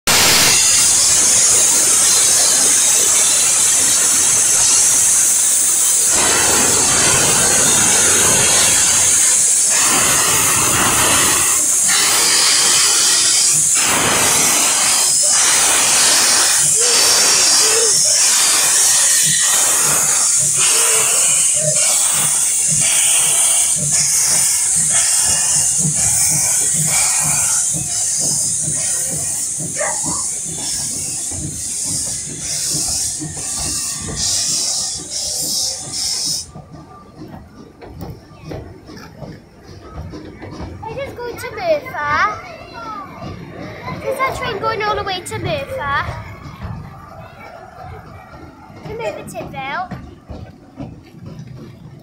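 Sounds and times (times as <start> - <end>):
steam hissing from locomotive: 0.1 - 52.0
steam locomotive exhaust beats: 0.1 - 52.0.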